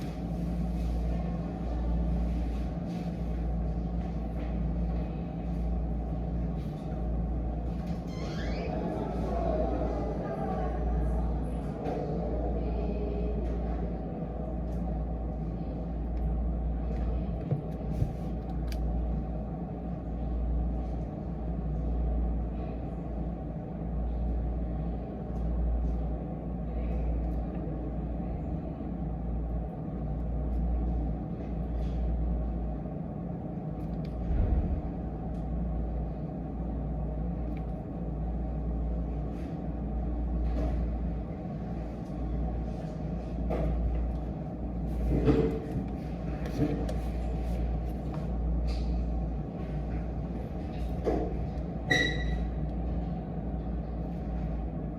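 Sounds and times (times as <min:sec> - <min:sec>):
low background rumble: 0:00.0 - 0:54.9.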